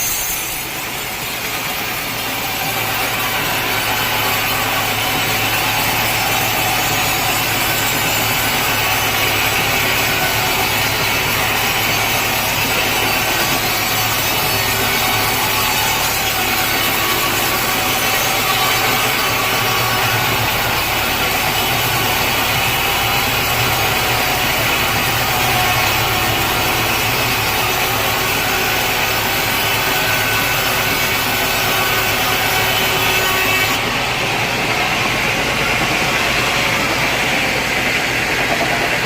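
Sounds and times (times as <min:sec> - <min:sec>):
machinery running: 0:00.0 - 0:39.0
sawmill saw cutting log: 0:00.0 - 0:39.0.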